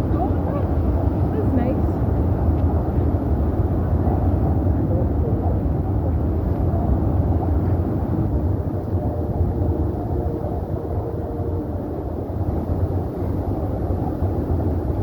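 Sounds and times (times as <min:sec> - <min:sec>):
faint hum: 0:00.0 - 0:15.0
freeway traffic: 0:00.0 - 0:15.0
wind: 0:00.0 - 0:15.0.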